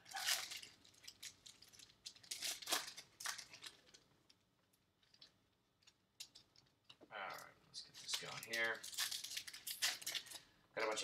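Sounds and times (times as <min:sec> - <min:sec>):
wrappers crinkling: 0:00.0 - 0:04.4, 0:05.0 - 0:11.0.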